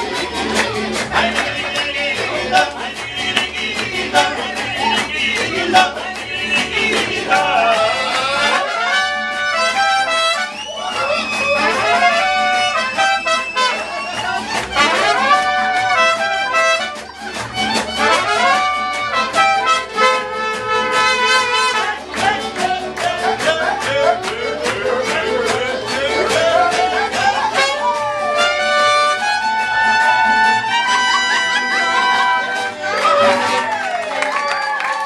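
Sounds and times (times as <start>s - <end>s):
mariachi band playing: 0.0s - 35.0s
people clapping along: 0.0s - 35.0s.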